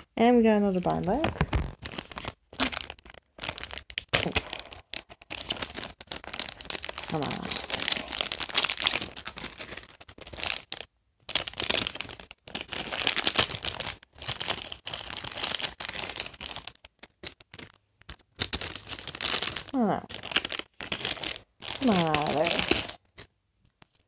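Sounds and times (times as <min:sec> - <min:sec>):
plastic packaging crinkling and tearing: 0:00.7 - 0:24.0.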